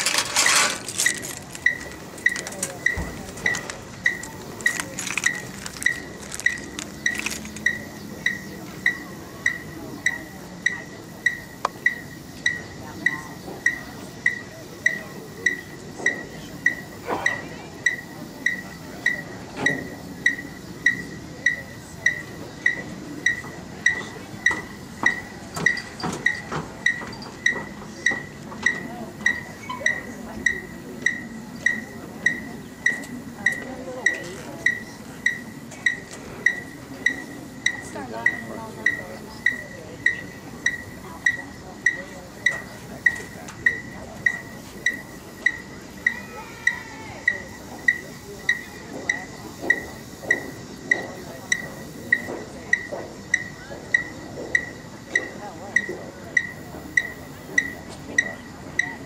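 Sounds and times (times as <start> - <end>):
electronic metronome beeping: 0.0 - 59.0
murmur of voices: 0.0 - 59.0.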